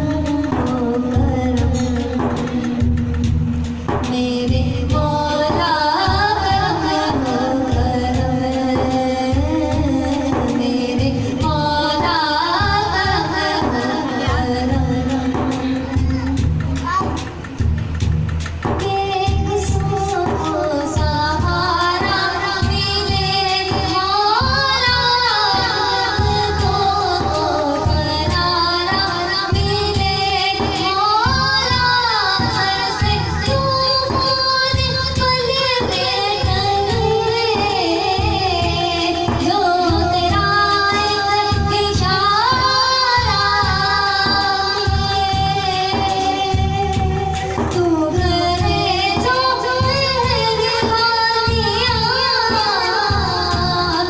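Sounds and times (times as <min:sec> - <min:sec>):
frame drum beat: 0:00.0 - 0:54.0
woman singing devotional song: 0:00.0 - 0:54.0.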